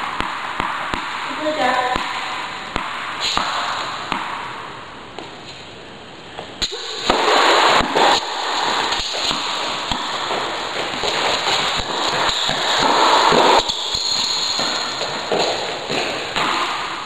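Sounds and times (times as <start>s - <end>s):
tennis balls struck with racquets: 0.0s - 5.4s, 6.4s - 17.0s.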